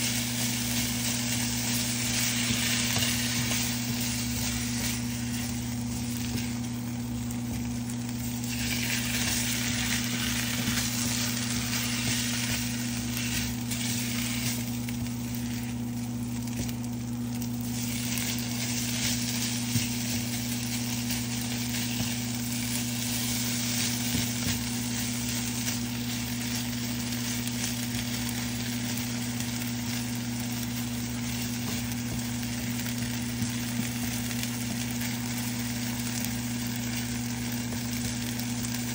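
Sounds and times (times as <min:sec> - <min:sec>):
chicken sizzling in pan: 0:00.0 - 0:38.9
steady low hum: 0:00.0 - 0:38.9.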